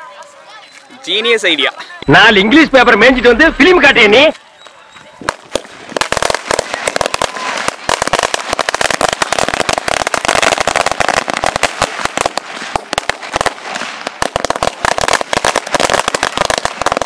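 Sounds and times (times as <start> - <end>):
firecrackers banging: 2.4 - 17.0.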